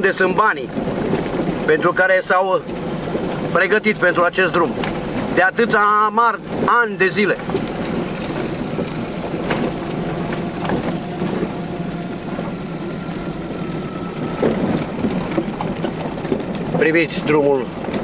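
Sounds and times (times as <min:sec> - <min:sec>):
car engine: 0:00.0 - 0:18.0
car knocks and rattles: 0:00.0 - 0:18.0
tyres on gravel: 0:00.5 - 0:18.0.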